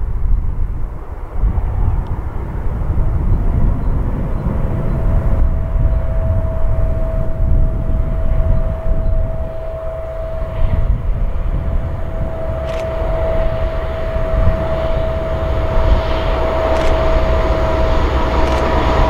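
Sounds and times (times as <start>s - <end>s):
diesel locomotive drone: 0.0s - 19.0s
low rumble: 0.0s - 19.0s.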